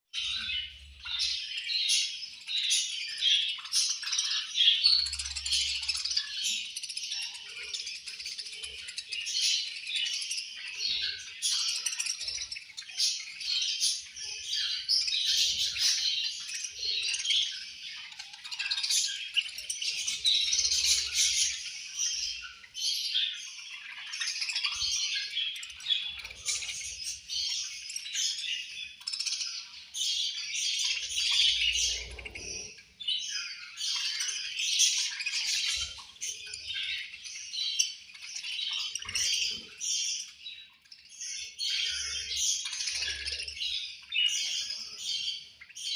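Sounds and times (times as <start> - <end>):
flock of budgerigars chirping: 0.2 - 45.9.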